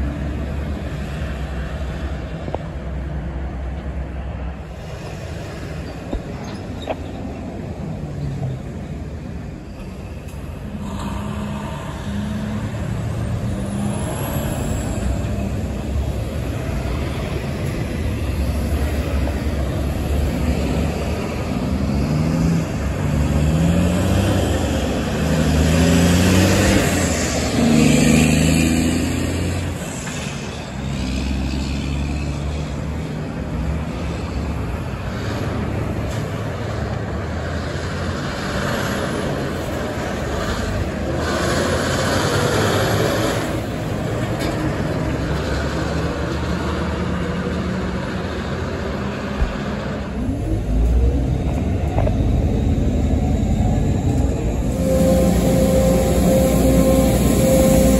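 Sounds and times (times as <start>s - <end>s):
diesel truck engine accelerating: 0.0s - 57.9s
street traffic: 0.0s - 57.9s
trucks passing: 0.0s - 57.9s.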